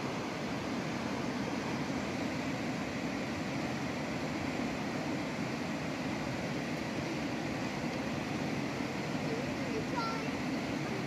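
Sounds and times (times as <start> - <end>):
gurgling stream: 0.0 - 11.0.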